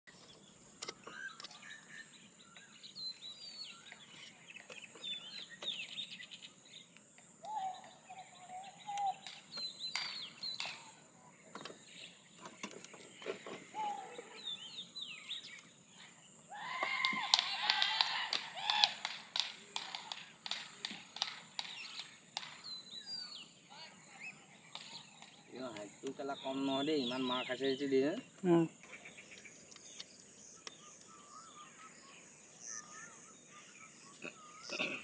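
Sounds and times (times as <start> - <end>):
birds chirping and twittering: 0.1 - 35.0.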